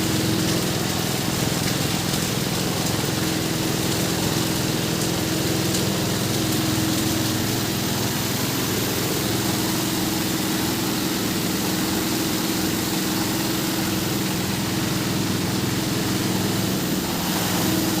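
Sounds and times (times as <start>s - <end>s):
diesel engine humming: 0.0s - 18.0s.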